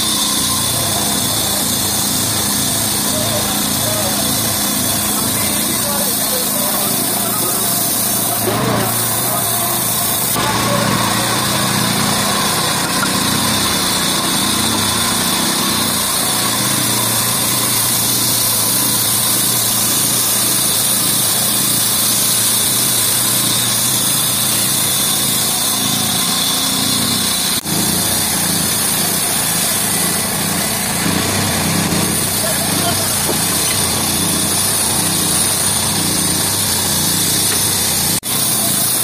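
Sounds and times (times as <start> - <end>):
band saw cutting through log: 0.0 - 39.0.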